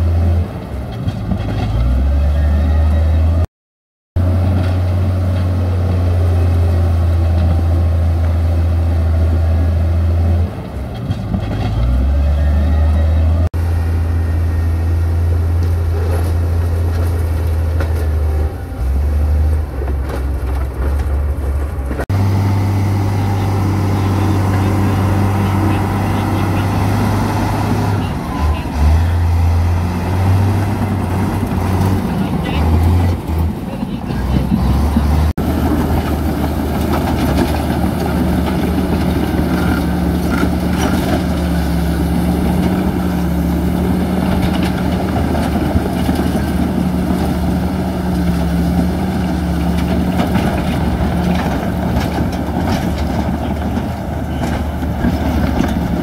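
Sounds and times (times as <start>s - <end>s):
heavy diesel engine droning: 0.0s - 3.5s, 4.2s - 56.0s.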